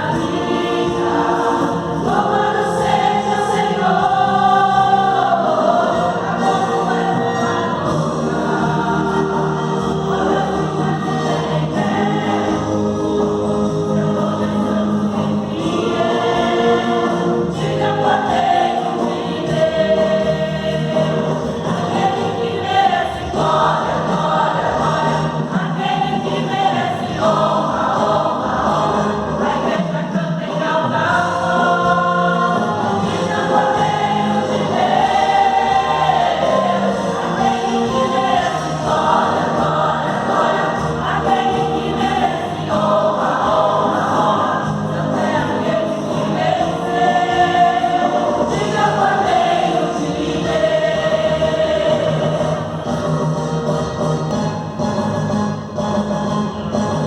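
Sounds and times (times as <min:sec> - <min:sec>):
choir singing a gospel song: 0:00.0 - 0:57.0.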